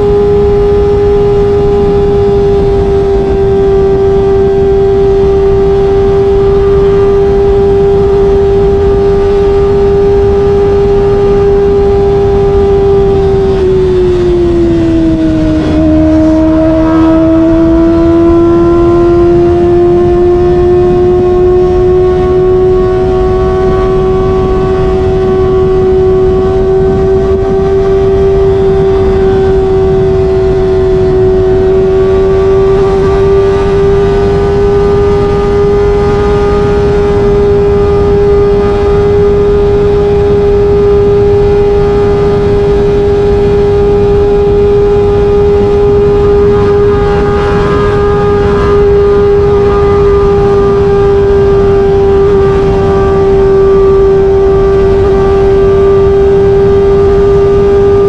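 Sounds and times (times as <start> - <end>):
motorcycle engine high revs: 0.0 - 58.0
wind rush: 0.0 - 58.0.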